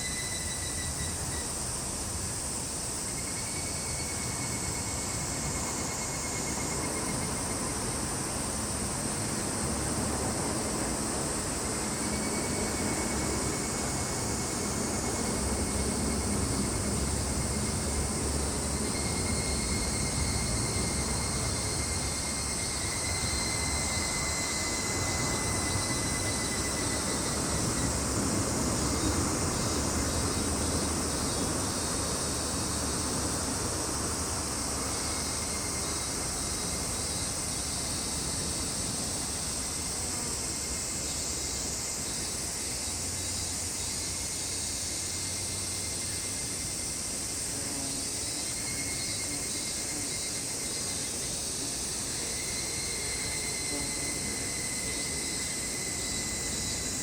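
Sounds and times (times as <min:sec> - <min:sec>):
insect chorus drone: 0:00.0 - 0:57.0
thin steady whine: 0:00.0 - 0:57.0.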